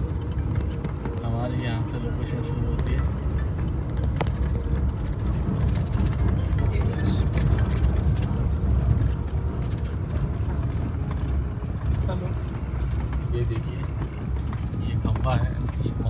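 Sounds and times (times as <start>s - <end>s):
vehicle engine and tyres rumble: 0.0s - 16.0s.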